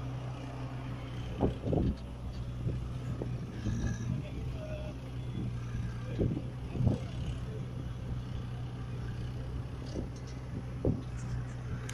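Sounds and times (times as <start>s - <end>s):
distant tractor engine running: 0.0s - 11.9s.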